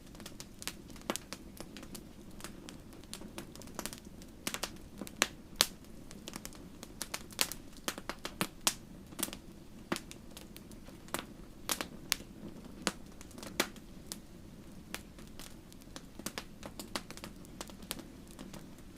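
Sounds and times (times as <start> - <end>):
fire crackling and popping: 0.0 - 18.9
low background noise: 0.0 - 18.9.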